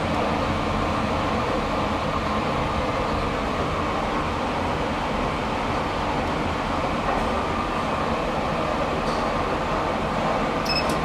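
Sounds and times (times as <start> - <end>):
metro station rumble: 0.0 - 11.0.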